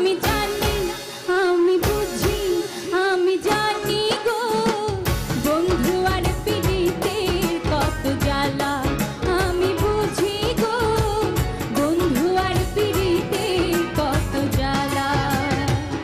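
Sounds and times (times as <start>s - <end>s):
instrumental backing: 0.0s - 16.0s
steady drum beat: 0.0s - 16.0s
woman singing folk song: 0.0s - 16.0s.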